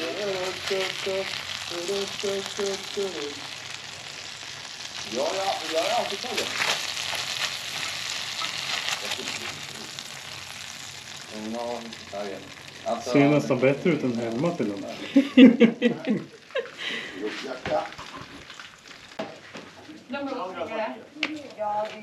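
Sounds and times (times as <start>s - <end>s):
meat sizzling in frying pan: 0.0s - 20.3s.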